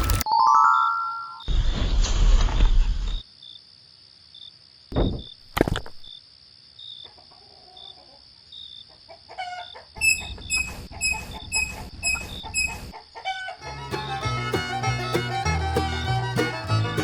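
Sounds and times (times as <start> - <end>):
insects chirping: 1.5 - 17.0.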